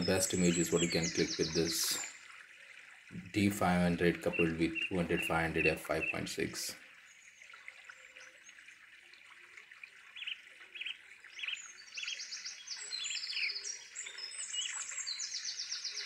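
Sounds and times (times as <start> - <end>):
birds chirping and trilling: 0.0 - 2.3, 3.2 - 8.6, 10.1 - 16.0.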